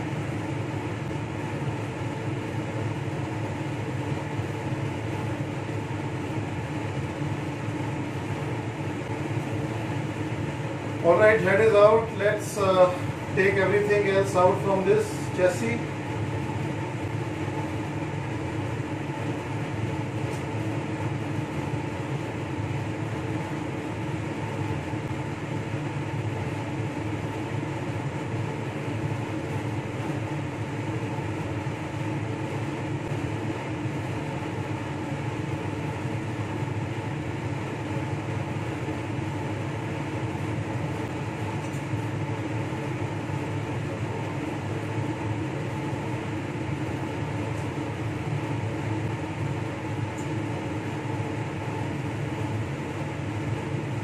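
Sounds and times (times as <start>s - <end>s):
clean bench blower rushing air: 0.0s - 54.0s.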